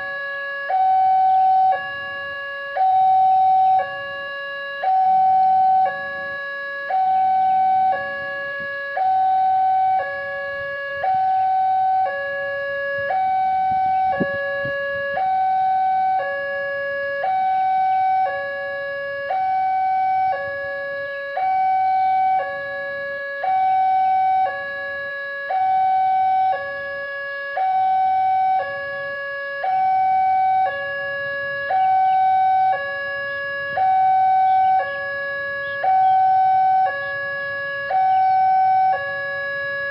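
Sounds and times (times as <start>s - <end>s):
two-tone railway warning alarm: 0.0s - 39.9s.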